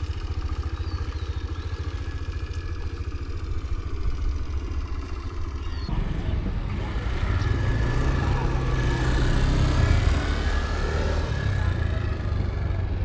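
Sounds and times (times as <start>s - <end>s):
small motorbike engine running: 0.0s - 13.0s.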